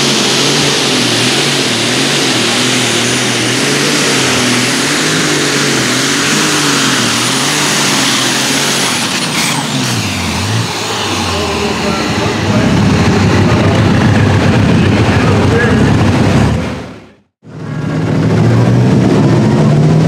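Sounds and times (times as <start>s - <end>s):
steady high whine: 0.0s - 20.0s
tractor engine at high revs: 0.0s - 20.0s.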